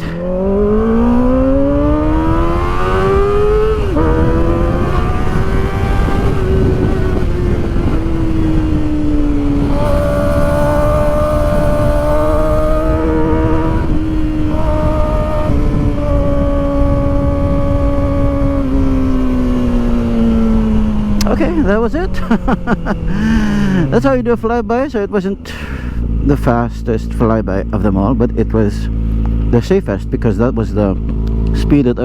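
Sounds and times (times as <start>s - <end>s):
motorcycle engine: 0.0s - 32.0s
wind noise: 0.0s - 32.0s.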